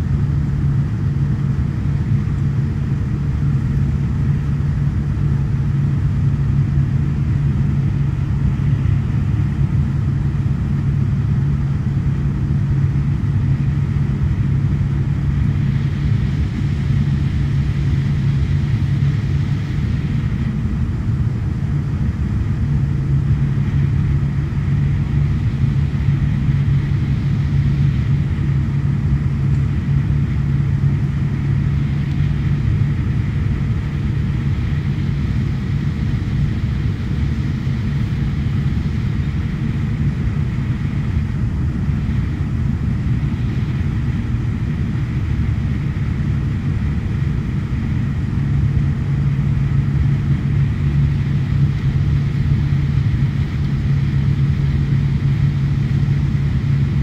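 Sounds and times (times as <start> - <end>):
low propeller hum: 0.0 - 57.0
turboprop engine drone: 0.0 - 57.0.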